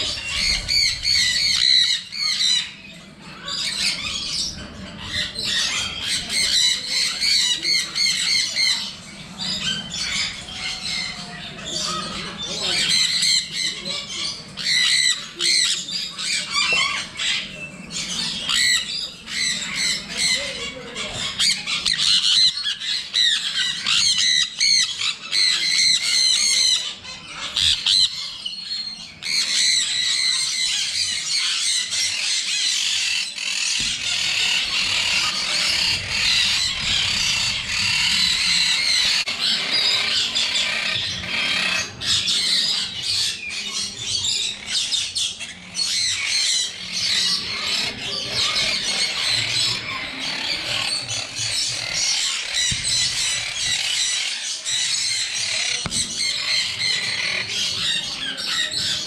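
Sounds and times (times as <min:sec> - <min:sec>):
parrots screeching: 0:00.0 - 0:59.0.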